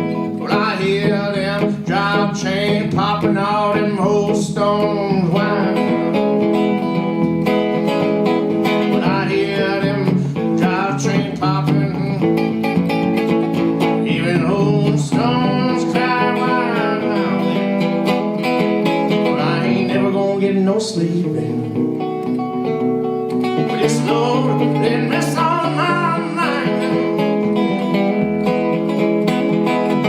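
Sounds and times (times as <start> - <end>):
solo blues guitar: 0.0 - 30.0.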